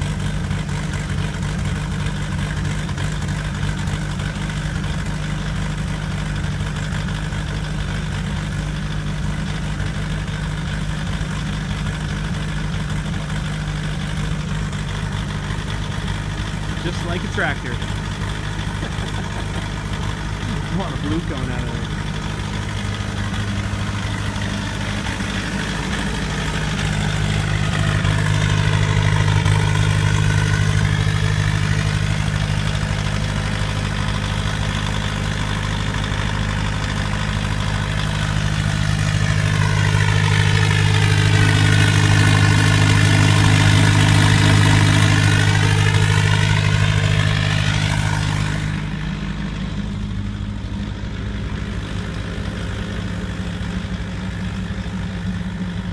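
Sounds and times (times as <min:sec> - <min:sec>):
diesel car engine idling: 0:00.0 - 0:55.9.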